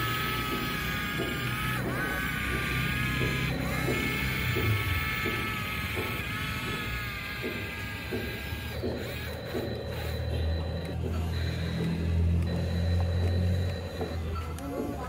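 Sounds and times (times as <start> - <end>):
gear clicking: 0.0 - 15.0
toy gear motors whining: 0.0 - 15.0.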